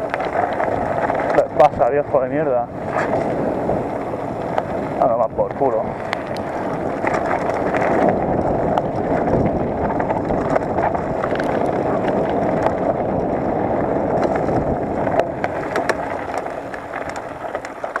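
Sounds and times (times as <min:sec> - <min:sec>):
bike clicking and rattling on stones: 0:00.0 - 0:18.0
tyre and wind rush: 0:00.0 - 0:18.0.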